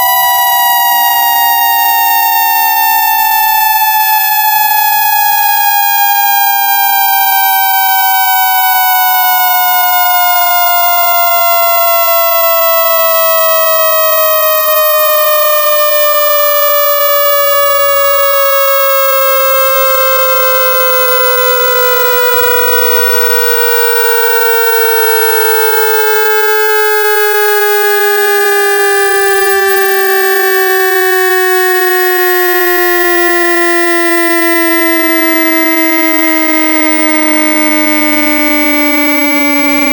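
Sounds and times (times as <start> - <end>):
electronic tone sweep: 0.0 - 39.9.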